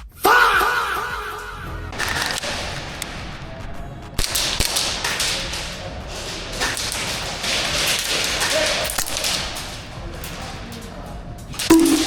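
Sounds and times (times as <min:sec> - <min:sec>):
airsoft guns firing: 0:02.0 - 0:12.0.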